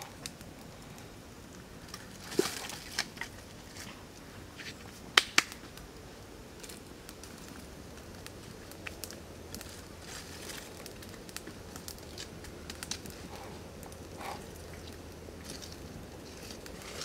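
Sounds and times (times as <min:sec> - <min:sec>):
sharp snaps and pops: 0:00.0 - 0:05.9, 0:06.5 - 0:17.0
wood fire crackling: 0:00.0 - 0:17.0.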